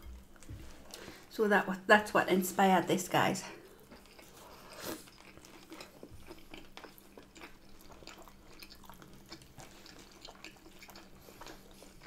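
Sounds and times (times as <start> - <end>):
faint wet chewing: 0.0 - 1.3, 3.6 - 12.0.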